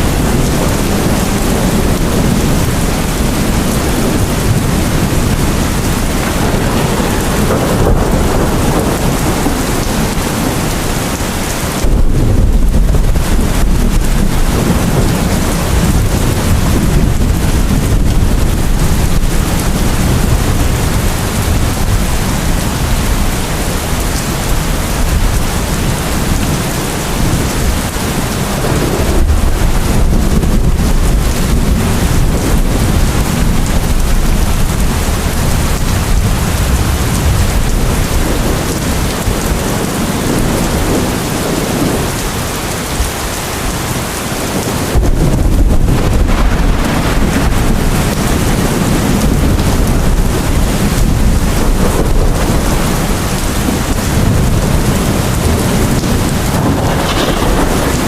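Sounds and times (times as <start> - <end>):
deep rumble: 0.0 - 39.2, 45.0 - 58.0
heavy rain: 0.0 - 58.0.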